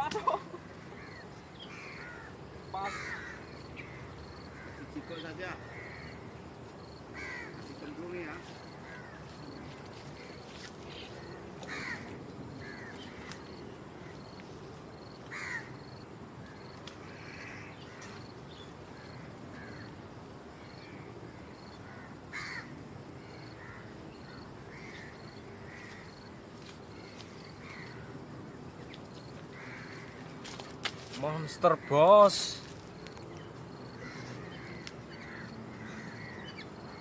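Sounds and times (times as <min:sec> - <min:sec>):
birds calling: 0:00.0 - 0:37.0.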